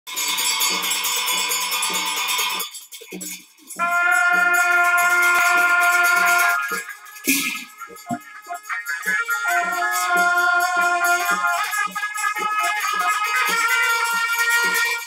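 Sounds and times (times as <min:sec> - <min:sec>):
drum beats: 0:00.1 - 0:15.0.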